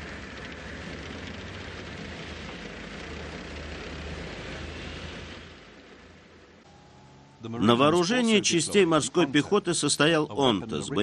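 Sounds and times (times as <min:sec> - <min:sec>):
tank engine and track rumble: 0:00.0 - 0:11.0.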